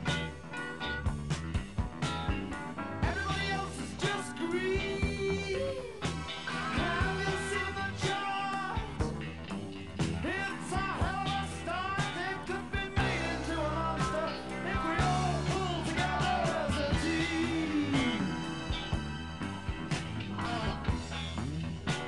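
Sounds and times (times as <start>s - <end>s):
rock song with drums and bass: 0.0s - 22.0s
person singing with sliding notes: 3.0s - 9.3s, 10.0s - 22.0s.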